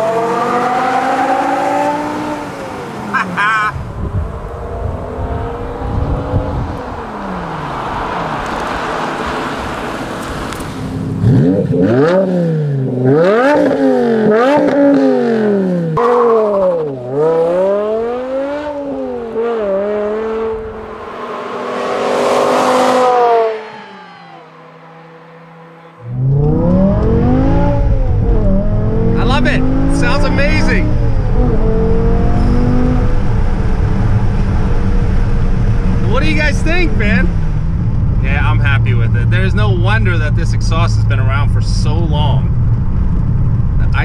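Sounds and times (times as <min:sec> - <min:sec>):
car engine revving: 0:00.0 - 0:44.0
car passing at speed: 0:03.8 - 0:39.7.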